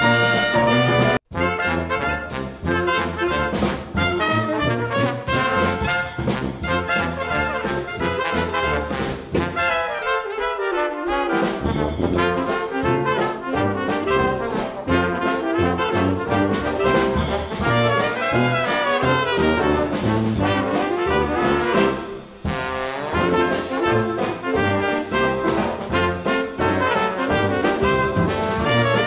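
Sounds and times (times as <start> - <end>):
brass instruments: 0.0 - 29.0.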